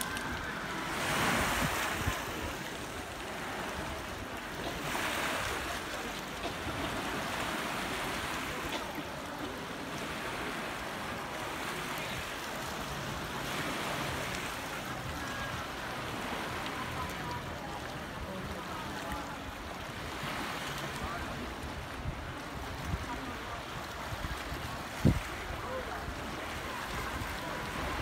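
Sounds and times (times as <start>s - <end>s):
waves washing onto pebble beach: 0.0s - 28.0s.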